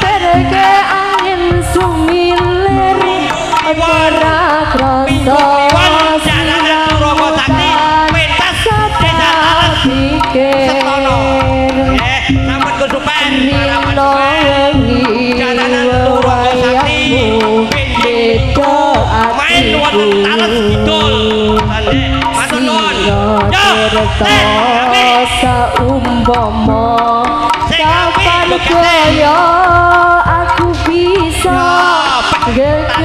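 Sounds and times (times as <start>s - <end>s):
hand drum beats: 0.0s - 33.0s
wavering melody: 0.0s - 33.0s.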